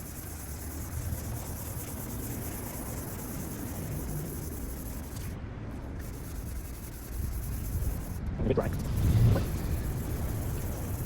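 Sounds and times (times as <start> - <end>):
wet sandpaper rubbing plastic: 0.0 - 11.0.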